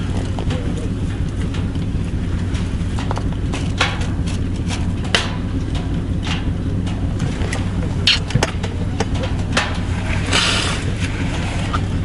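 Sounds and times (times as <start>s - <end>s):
sharp clicks and knocks: 0.0s - 10.1s
steady low hum: 0.0s - 12.0s.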